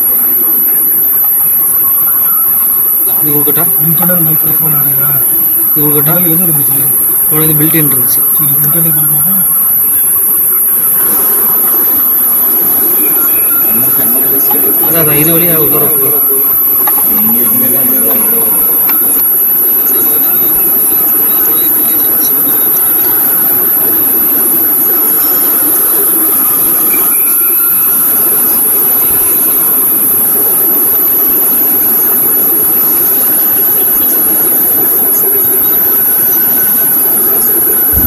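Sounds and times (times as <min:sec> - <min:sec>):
high-pitched whine: 0:00.0 - 0:38.0
loud electronic hiss: 0:00.0 - 0:38.0.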